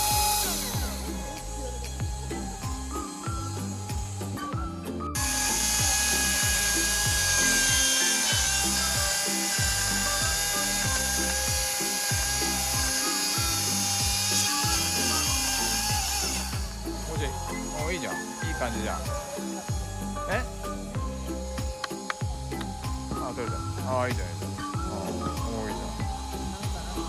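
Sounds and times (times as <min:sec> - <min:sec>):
background music with beat: 0:00.0 - 0:27.0
chainsaw cutting wood: 0:00.0 - 0:27.0.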